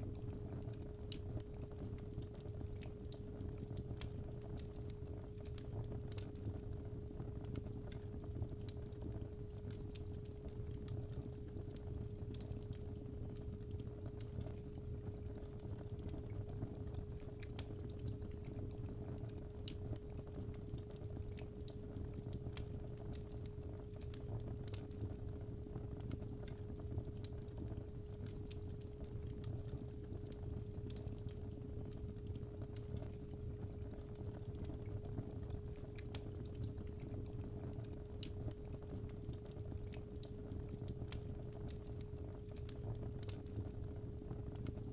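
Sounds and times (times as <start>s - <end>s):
fire crackling and popping: 0.2s - 44.9s.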